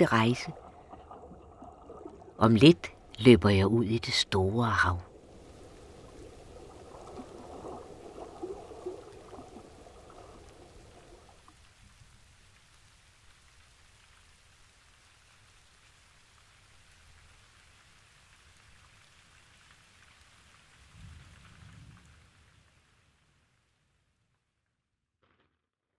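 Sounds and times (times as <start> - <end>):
rain-like water patter: 0.0 - 24.5.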